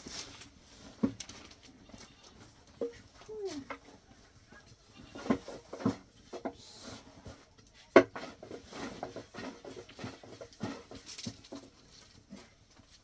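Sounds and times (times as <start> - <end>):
objects knocking and clattering: 0.8 - 4.0, 5.1 - 6.6, 7.2 - 13.0.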